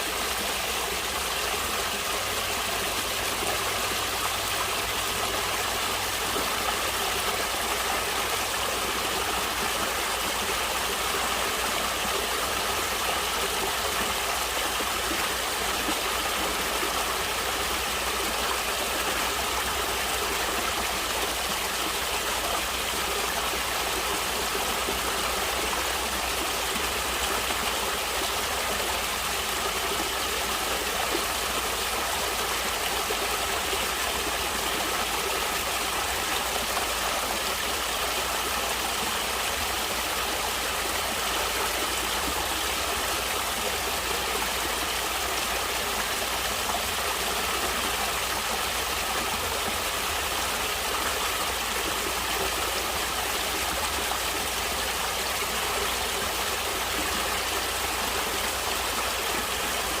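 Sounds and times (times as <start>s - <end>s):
stream water flowing: 0.0s - 60.0s.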